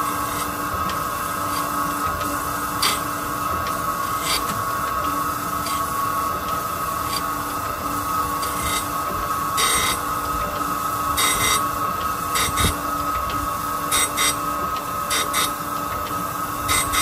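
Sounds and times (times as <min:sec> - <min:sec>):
grinder spindle whine: 0:00.0 - 0:17.0.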